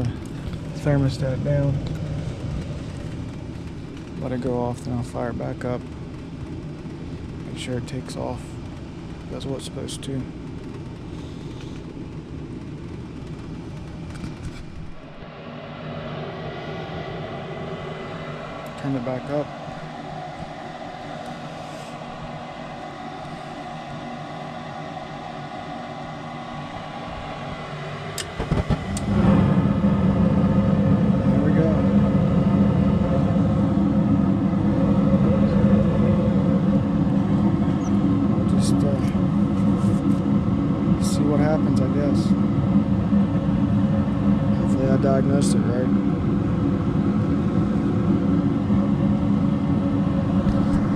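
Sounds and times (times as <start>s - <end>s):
furnace motors rumbling: 0.0s - 50.9s
motor hum with tones: 0.0s - 50.9s.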